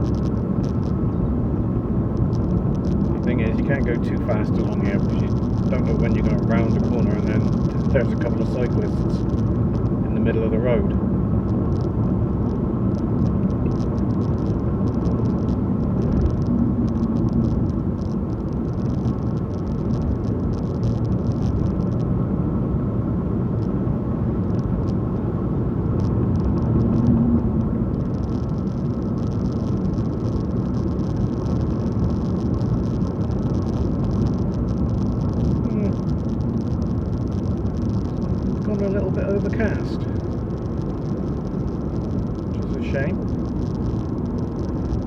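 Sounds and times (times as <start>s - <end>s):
car engine and tyre rumble: 0.0s - 45.0s
faint crackling hiss from road: 0.0s - 45.0s.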